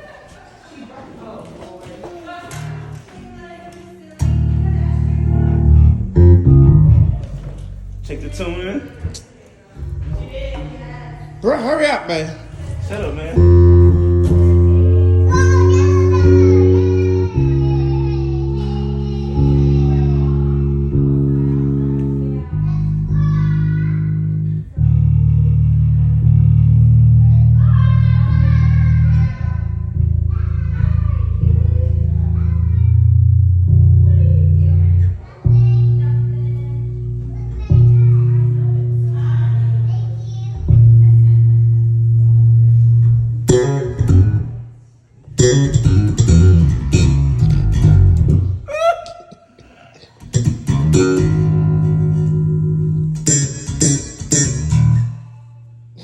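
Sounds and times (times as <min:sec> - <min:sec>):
electric bass sustained low notes: 0:04.2 - 0:48.7, 0:50.2 - 0:56.0.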